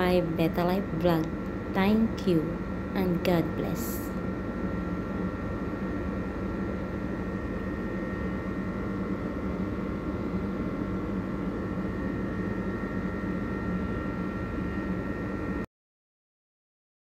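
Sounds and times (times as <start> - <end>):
machine hum: 0.0 - 15.7.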